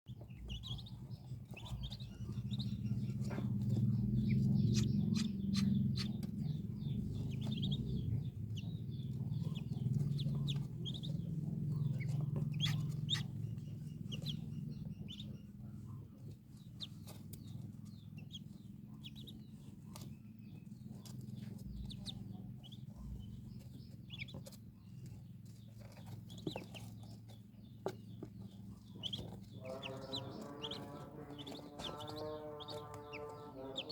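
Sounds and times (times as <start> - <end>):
ducklings peeping: 0.1 - 33.9
steady low hum: 0.1 - 33.9.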